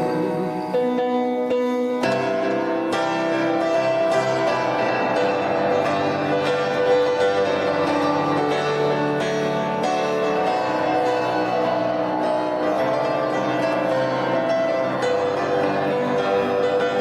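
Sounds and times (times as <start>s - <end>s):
slow melodic instrumental music: 0.0s - 17.0s.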